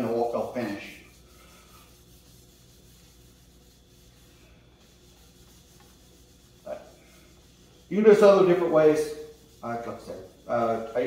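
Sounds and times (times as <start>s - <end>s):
cloth rag wiping wood: 0.0s - 11.0s
low steady hum: 0.0s - 11.0s.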